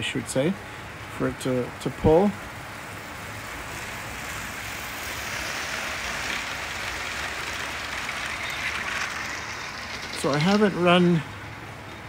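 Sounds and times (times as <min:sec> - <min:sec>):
model train rolling on track: 0:01.4 - 0:12.0.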